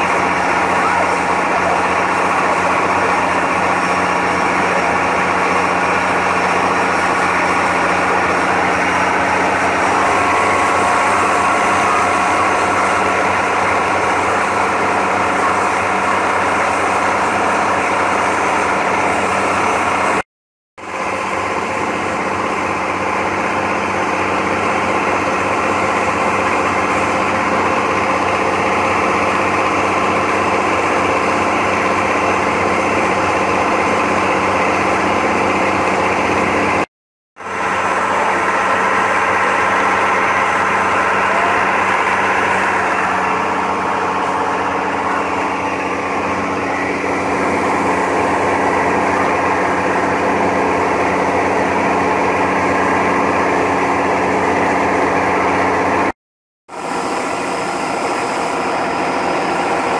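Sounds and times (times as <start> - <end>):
boat engine running steadily: 0.0 - 20.2, 20.8 - 56.1, 56.7 - 59.9.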